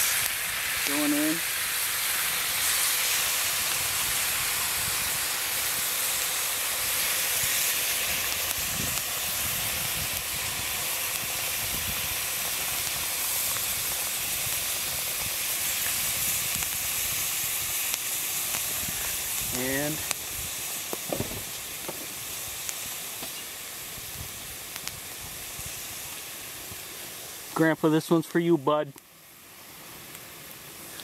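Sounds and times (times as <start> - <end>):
stock sizzling in hot pot: 0.0 - 31.0.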